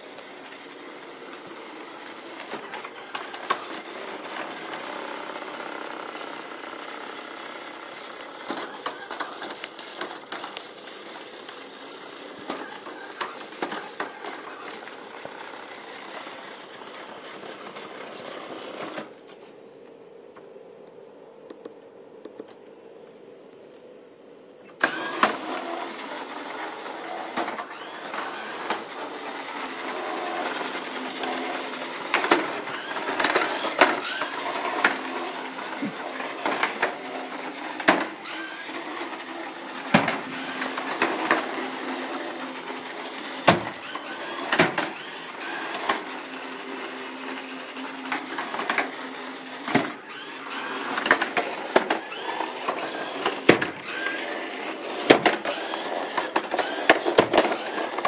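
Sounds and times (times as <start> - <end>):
robot wheel motors whirring: 0.0 - 19.6, 24.6 - 58.0.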